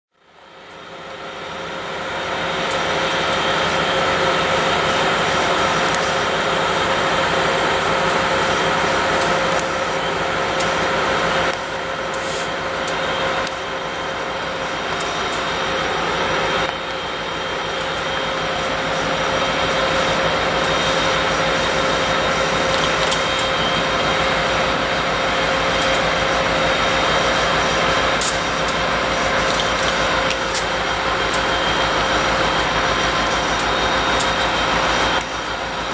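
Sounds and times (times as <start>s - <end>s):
diesel locomotive engines running: 0.1s - 35.9s
constant whine: 0.2s - 35.9s.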